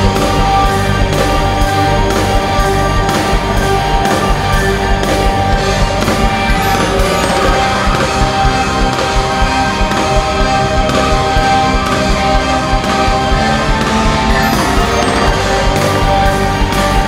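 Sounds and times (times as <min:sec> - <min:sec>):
loud show music with steady beat: 0:00.0 - 0:17.0.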